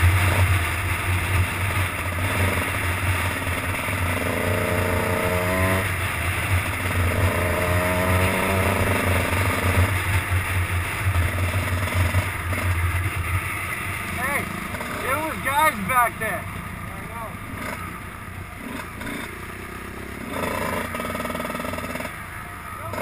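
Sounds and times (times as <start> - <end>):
dirt bike engine accelerating: 0.0 - 23.0.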